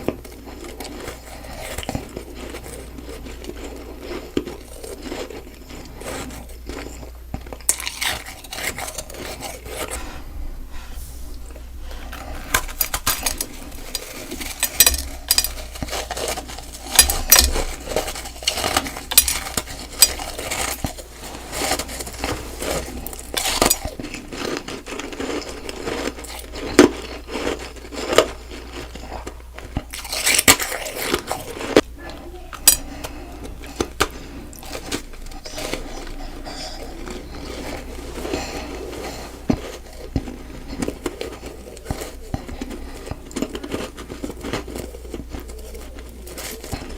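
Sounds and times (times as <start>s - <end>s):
biting and chewing crunchy ice: 0.0s - 10.6s, 11.4s - 46.9s.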